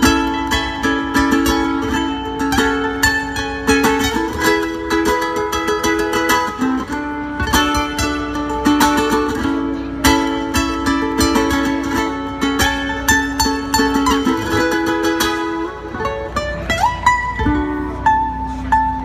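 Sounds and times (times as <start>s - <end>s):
ukulele duet: 0.0s - 19.0s.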